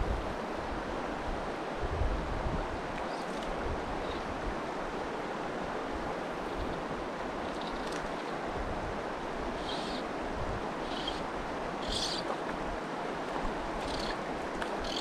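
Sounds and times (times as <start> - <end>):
stream rushing over stones: 2.7 - 15.0.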